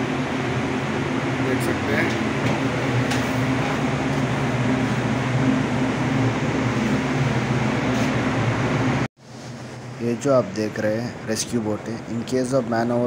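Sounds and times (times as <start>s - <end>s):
noisy rush: 0.0s - 13.0s
ship machinery drone: 0.0s - 13.0s.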